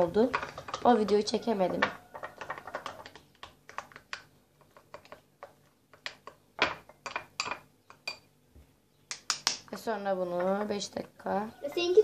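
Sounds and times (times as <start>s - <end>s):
plastic spoons tapping glass bowls: 0.0s - 8.3s, 9.1s - 10.9s.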